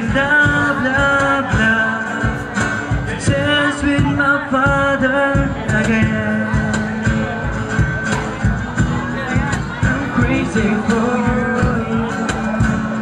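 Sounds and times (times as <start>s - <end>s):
person singing: 0.0s - 7.4s, 9.7s - 13.0s
strummed acoustic guitars: 0.0s - 13.0s.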